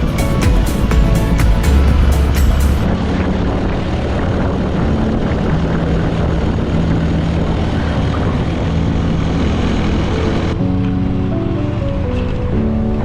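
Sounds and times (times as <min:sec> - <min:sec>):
loud steady rushing noise: 0:00.0 - 0:13.0
low droning hum: 0:00.0 - 0:13.0.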